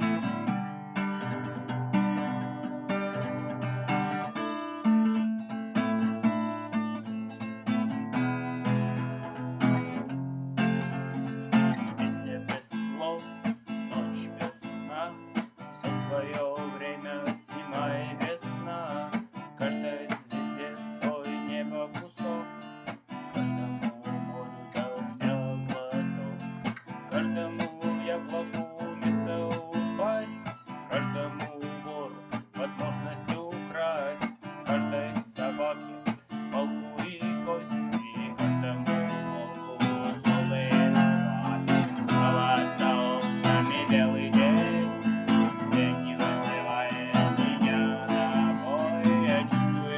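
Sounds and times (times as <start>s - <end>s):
acoustic guitar playing: 0.0s - 49.9s.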